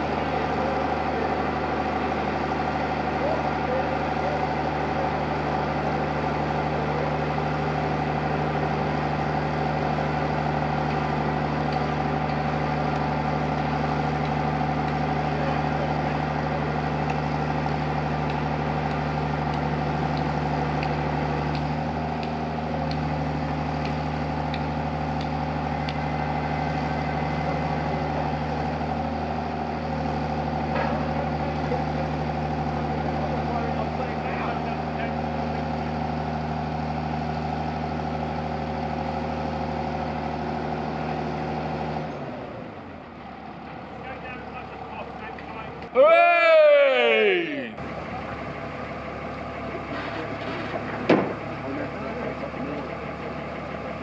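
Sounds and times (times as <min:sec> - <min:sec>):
boat hoist engine humming: 0:00.0 - 0:54.0.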